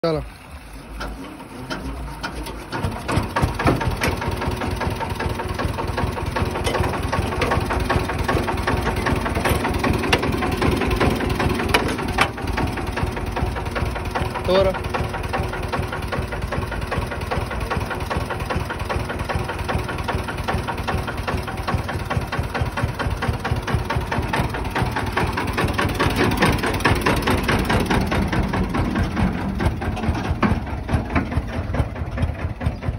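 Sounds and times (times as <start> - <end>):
diesel engine thudding: 0.5 - 32.9.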